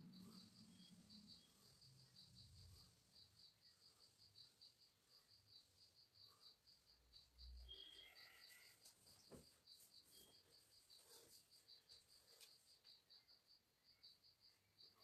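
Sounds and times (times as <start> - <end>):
faint insect chirping: 0.0 - 15.0.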